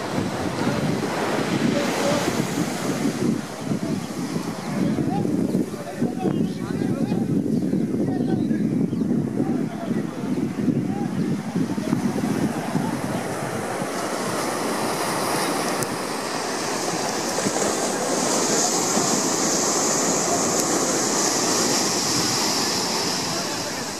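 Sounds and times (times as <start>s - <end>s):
surf breaking on beach: 0.0s - 7.5s, 9.1s - 23.9s.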